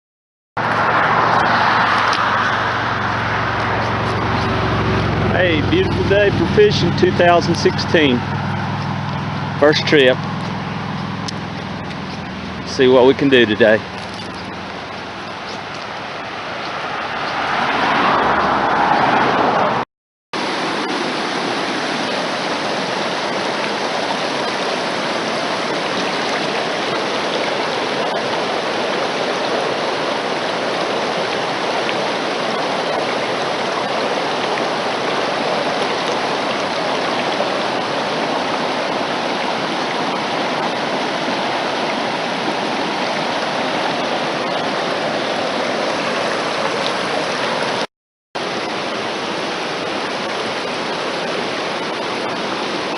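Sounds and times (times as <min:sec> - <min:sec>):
stream rushing: 0:00.6 - 0:19.8, 0:20.4 - 0:52.9.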